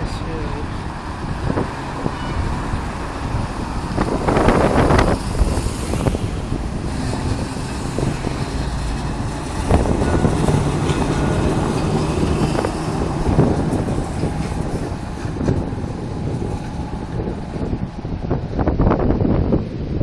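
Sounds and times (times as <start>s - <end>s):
wheels clacking: 0.0s - 18.9s
electric tram rumbling on rails: 0.0s - 20.0s
low hum: 0.0s - 20.0s.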